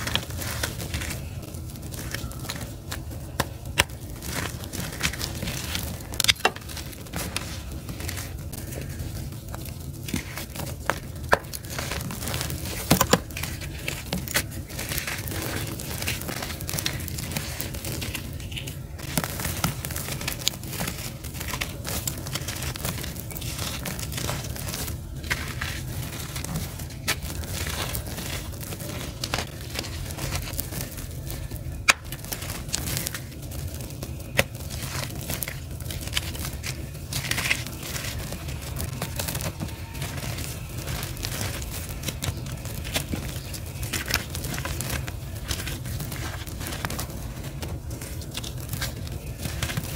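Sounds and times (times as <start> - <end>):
charcoal pieces snapping: 0.0 - 49.9
hands crunching charcoal: 0.0 - 49.9.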